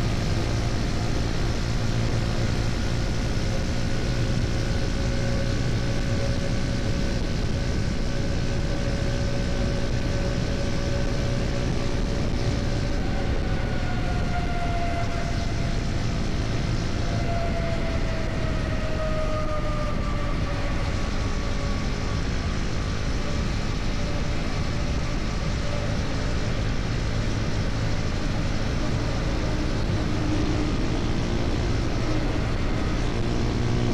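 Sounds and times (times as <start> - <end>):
motorcycle engine cruising: 0.0 - 33.9
road and wind noise: 0.0 - 33.9.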